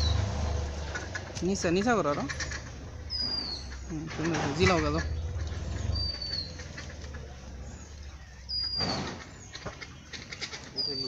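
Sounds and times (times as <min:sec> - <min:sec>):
rustling: 0:00.8 - 0:10.8.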